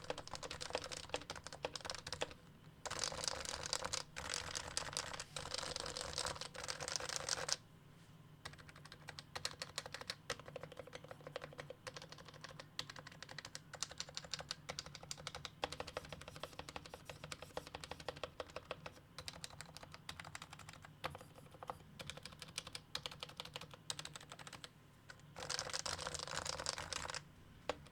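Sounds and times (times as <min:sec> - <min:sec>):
keyboard typing: 0:00.0 - 0:07.6, 0:08.4 - 0:27.9.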